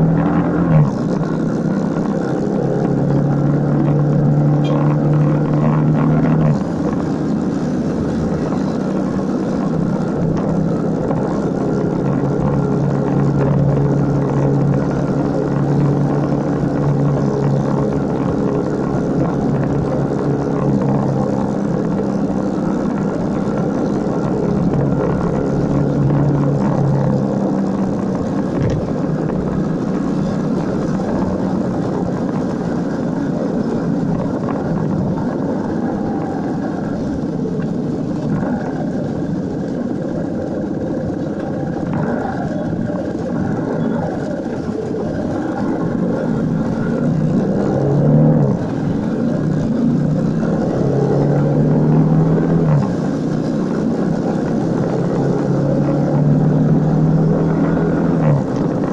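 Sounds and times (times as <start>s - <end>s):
continuous rushing noise: 0.0s - 58.9s
motorcycle engine running: 0.0s - 58.9s.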